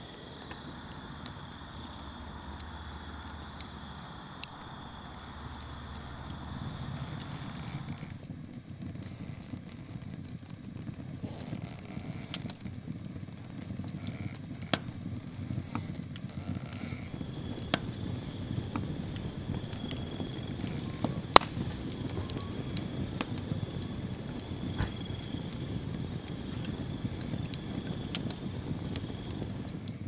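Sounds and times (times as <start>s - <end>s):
fire popping and crackling: 0.0s - 30.0s
fire rumbling: 0.0s - 30.0s.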